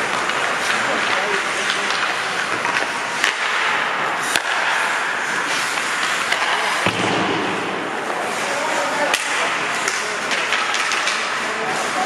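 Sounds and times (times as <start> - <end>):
hockey sticks striking puck: 0.0 - 12.0
skates scraping ice: 0.0 - 12.0.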